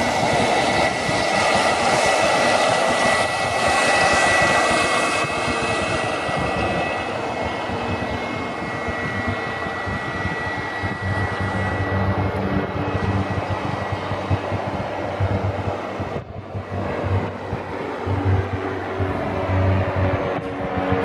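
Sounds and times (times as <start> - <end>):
turbine whistle and rushing: 0.0 - 21.0.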